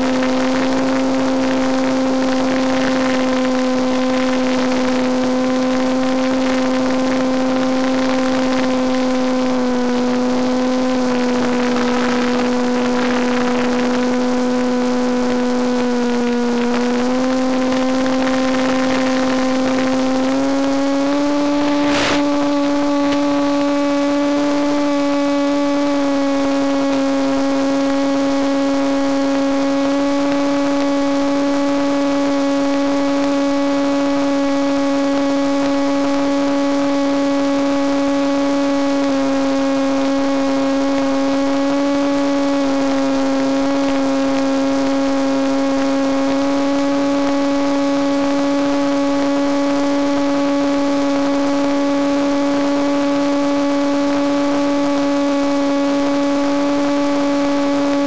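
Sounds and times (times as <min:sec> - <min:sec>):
model airplane propeller humming: 0:00.0 - 0:58.0.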